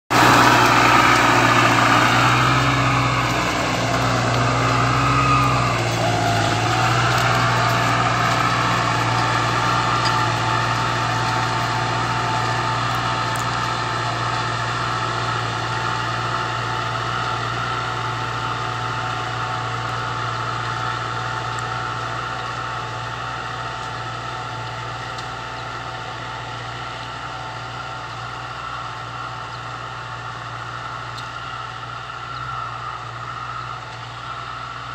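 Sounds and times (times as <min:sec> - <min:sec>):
tractor diesel engine droning: 0:00.1 - 0:34.9.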